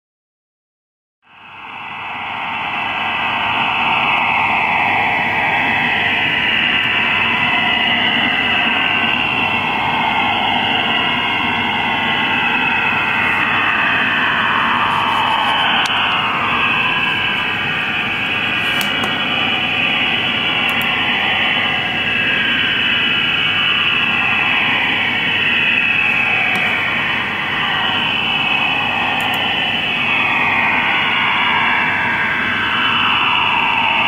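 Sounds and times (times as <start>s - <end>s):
dense rushing data signal: 1.3s - 34.0s.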